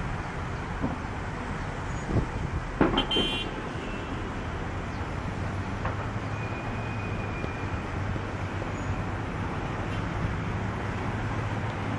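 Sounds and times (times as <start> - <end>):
rushing outdoor noise: 0.0 - 11.9.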